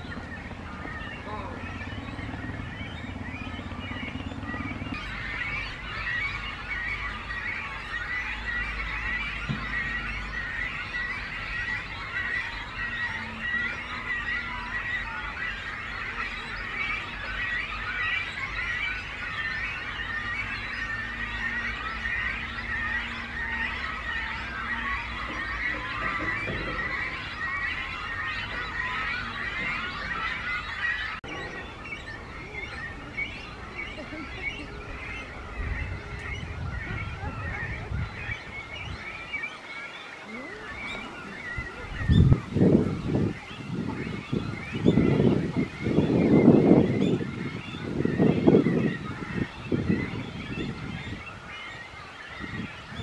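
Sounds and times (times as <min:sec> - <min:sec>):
bird chicks chattering calls: 0:00.0 - 0:53.0.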